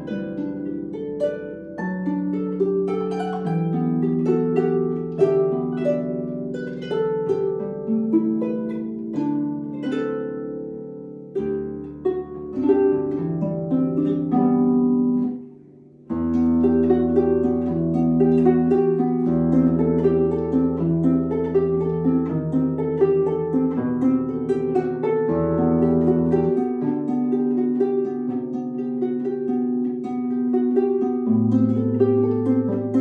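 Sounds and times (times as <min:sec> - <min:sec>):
solo harp playing: 0:00.0 - 0:33.0.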